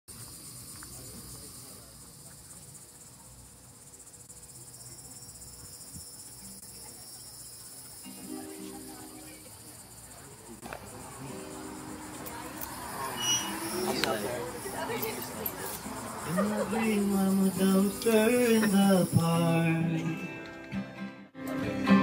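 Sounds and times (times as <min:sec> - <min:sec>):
crickets chirring: 0:00.1 - 0:20.4.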